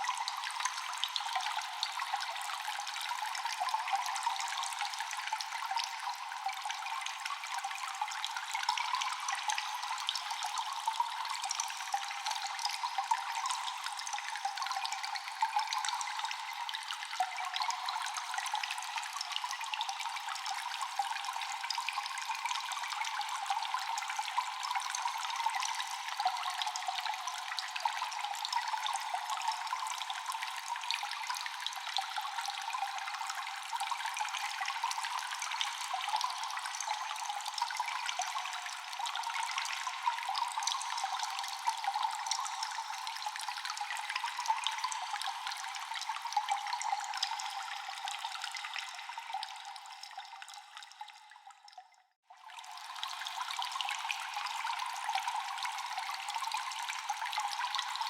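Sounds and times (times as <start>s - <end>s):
water dripping in a cave: 0.0s - 58.0s
water trickling: 0.0s - 58.0s.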